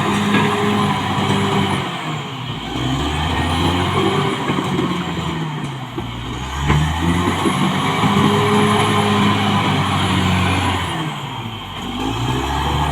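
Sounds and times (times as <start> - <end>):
bulldozer diesel engine: 0.0 - 12.9.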